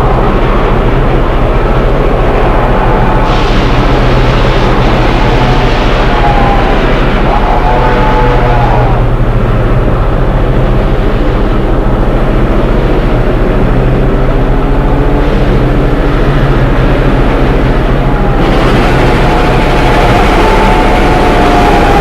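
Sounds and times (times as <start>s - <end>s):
train engine drone: 0.0s - 22.0s.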